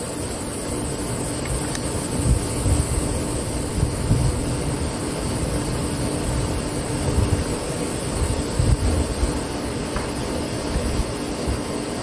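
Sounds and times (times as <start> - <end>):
faint steady hum: 0.0 - 12.0
wind buffeting microphone: 1.6 - 12.0.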